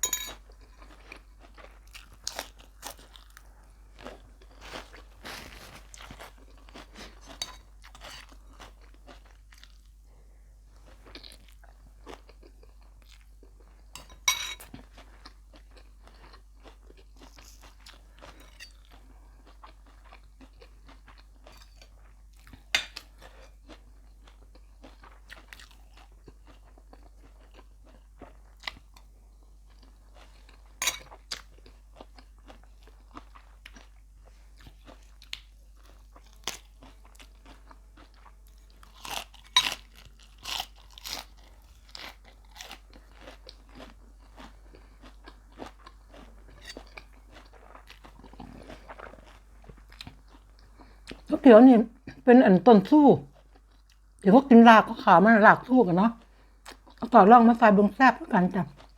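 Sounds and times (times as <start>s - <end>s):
chewing and crunching food: 0.0s - 58.9s.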